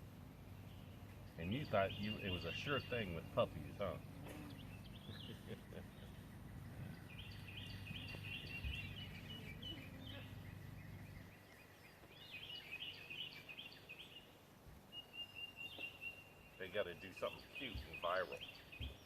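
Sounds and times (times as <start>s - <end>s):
faint low hum: 0.0s - 19.0s
small bird chirping: 0.4s - 19.0s.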